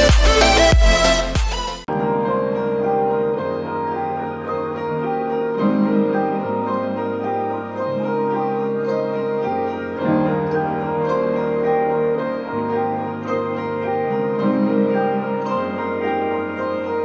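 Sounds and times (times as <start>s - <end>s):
slow piano chords: 1.8s - 17.0s.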